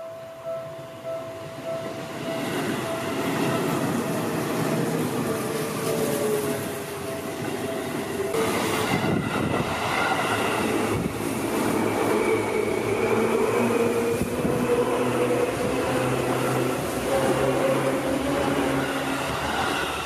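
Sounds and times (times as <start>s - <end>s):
steady train tones: 0.0s - 20.0s
train wheels rumbling on rails: 1.7s - 20.0s.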